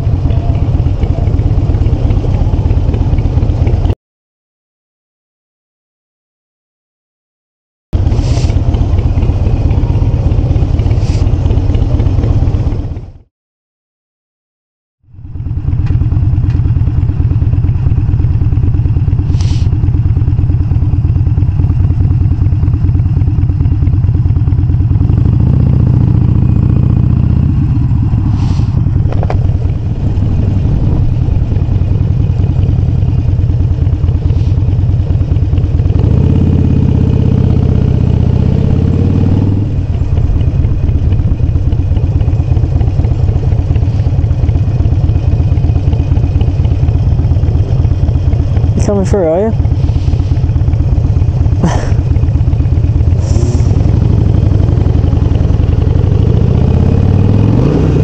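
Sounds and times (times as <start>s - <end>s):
motorcycle engine running loud: 0.0s - 4.0s, 8.0s - 13.3s, 15.1s - 58.0s.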